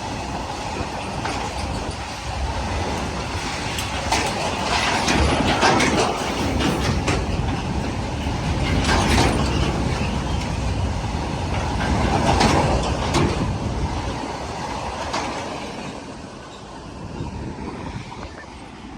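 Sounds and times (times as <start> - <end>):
wheels clattering over rail joints: 0.0 - 17.0
freight train wheels rumbling: 0.0 - 18.9.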